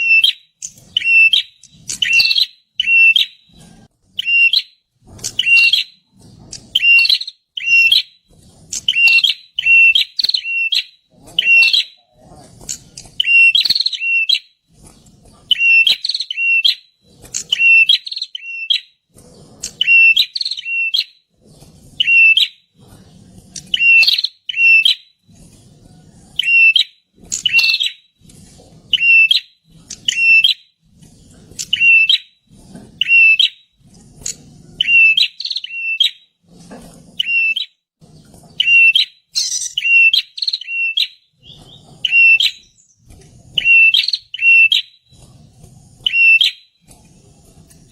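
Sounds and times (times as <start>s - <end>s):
bird chirping: 0.0s - 25.5s, 26.1s - 33.6s, 34.2s - 36.3s, 37.2s - 45.4s, 46.0s - 46.7s.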